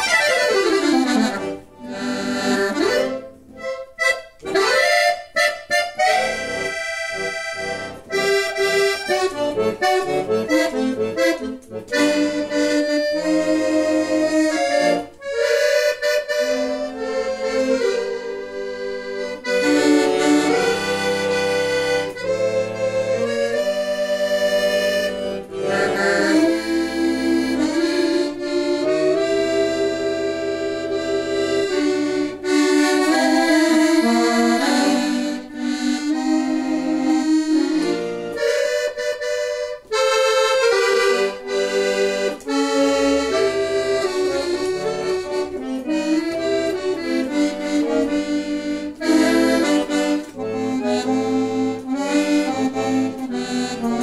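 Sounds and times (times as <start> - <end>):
accordion melody: 0.0 - 54.0.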